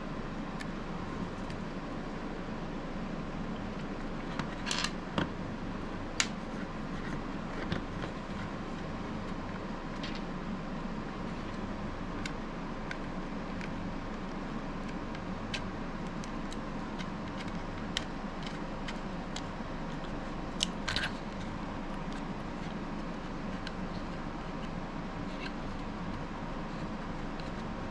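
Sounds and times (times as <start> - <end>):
background hum: 0.0 - 27.9.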